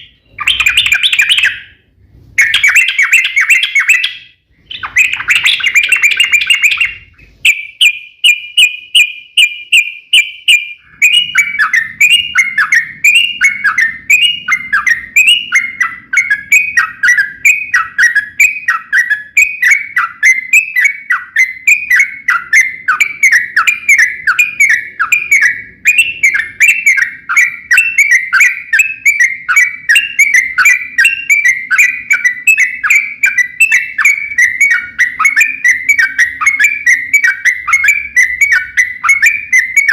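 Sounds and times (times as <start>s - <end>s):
bird singing rolling song: 0.0s - 39.9s.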